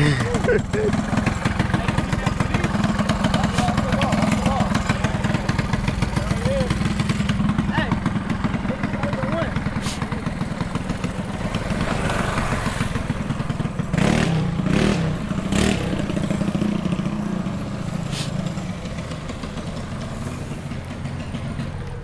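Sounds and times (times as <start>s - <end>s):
mini bike engine idling: 0.0s - 22.0s.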